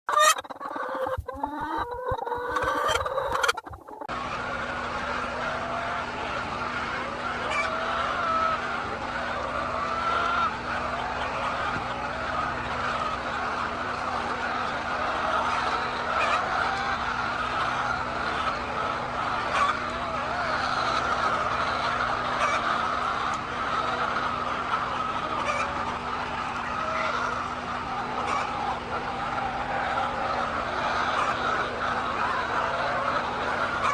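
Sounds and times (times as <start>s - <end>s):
chickens clucking: 0.1s - 33.9s.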